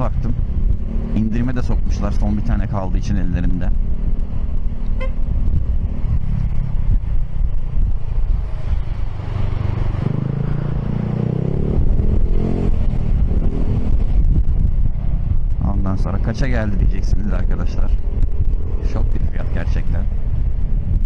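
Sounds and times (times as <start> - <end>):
scooter engine and road rumble: 0.0 - 21.0.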